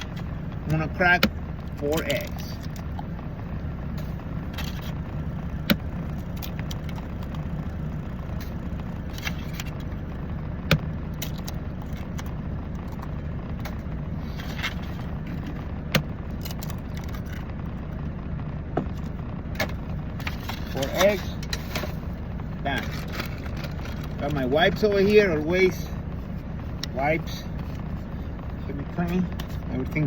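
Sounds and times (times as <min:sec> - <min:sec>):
low rumble in truck cab: 0:00.0 - 0:30.0.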